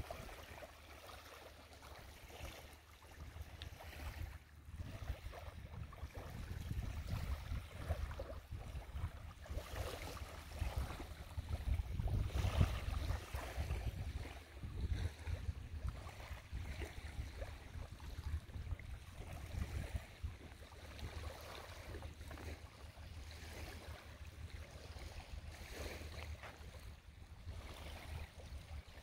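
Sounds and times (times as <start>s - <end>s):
wind buffeting microphone: 3.9s - 29.0s.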